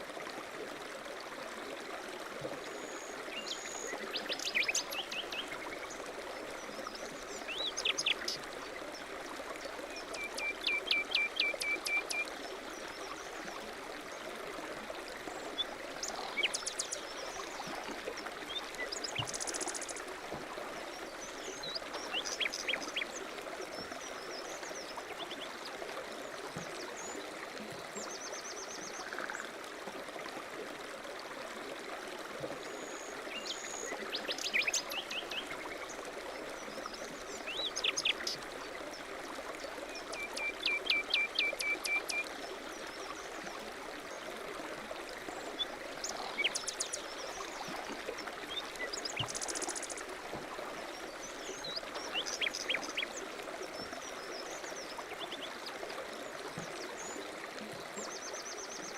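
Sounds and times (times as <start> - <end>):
mountain stream running: 0.0 - 58.9.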